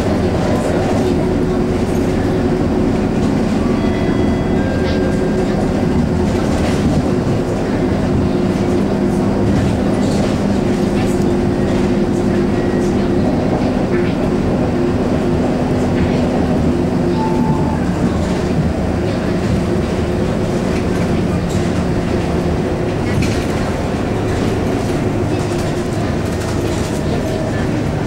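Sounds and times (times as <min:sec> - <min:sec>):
bus engine drone: 0:00.0 - 0:28.0.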